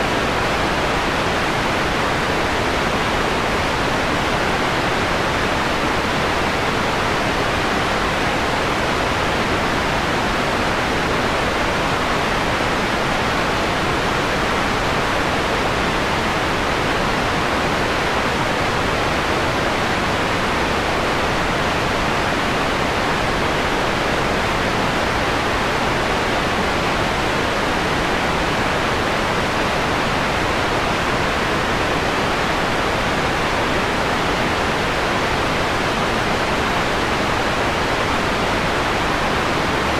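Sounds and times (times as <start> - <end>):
filtered white noise: 0.0 - 39.9.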